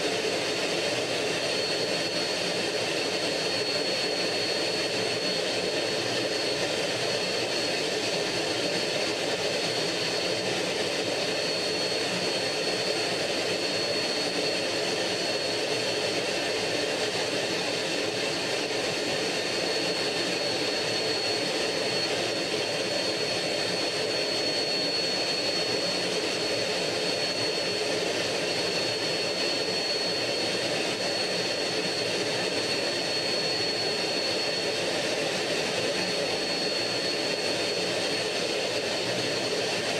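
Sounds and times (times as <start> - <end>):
jet engine roar with whine: 0.0 - 39.9.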